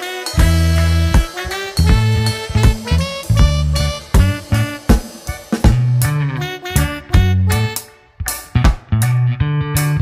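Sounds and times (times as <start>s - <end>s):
upbeat music with bass and drums: 0.0s - 10.0s.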